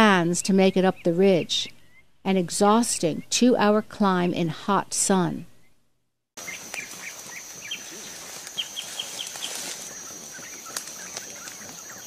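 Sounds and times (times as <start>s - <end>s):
birds chirping: 0.0s - 4.6s, 6.4s - 12.0s.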